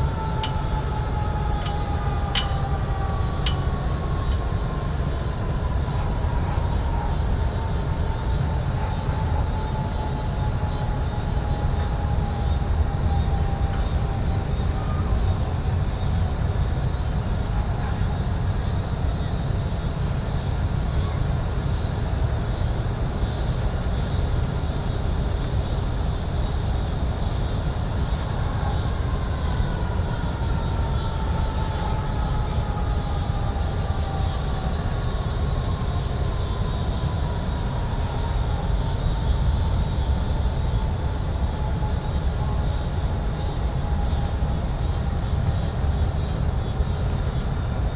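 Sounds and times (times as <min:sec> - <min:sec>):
low rumble of traffic: 0:00.0 - 0:47.9.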